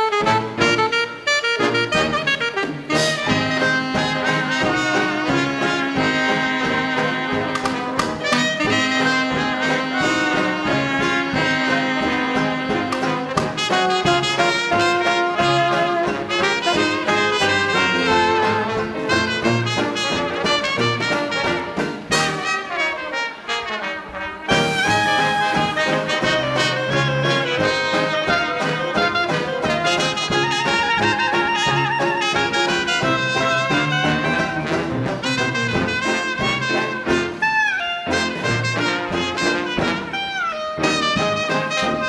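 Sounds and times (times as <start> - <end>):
clarinet: 0.0 - 42.0
saxophones: 0.0 - 42.0
trombone: 0.0 - 42.0
trumpet: 0.0 - 42.0
banjo: 1.6 - 22.8, 24.2 - 42.0.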